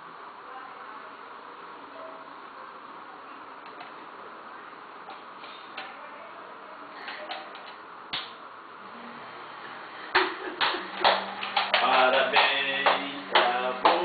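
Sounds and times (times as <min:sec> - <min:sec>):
room hiss: 0:00.0 - 0:14.0.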